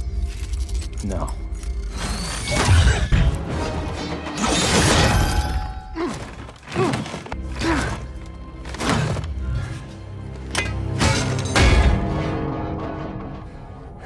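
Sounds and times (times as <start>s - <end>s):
dramatic music: 0.0s - 14.0s.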